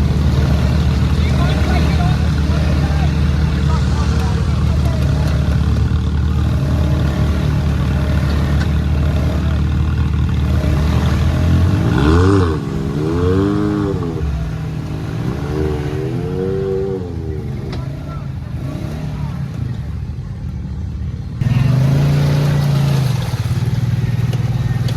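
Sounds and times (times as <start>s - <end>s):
off-road vehicle engine revving: 0.0s - 24.9s.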